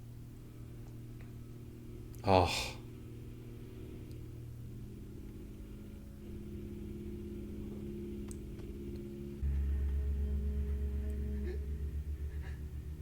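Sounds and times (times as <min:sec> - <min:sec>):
deep pulsing hum: 0:00.0 - 0:13.0
low droning score: 0:00.0 - 0:13.0.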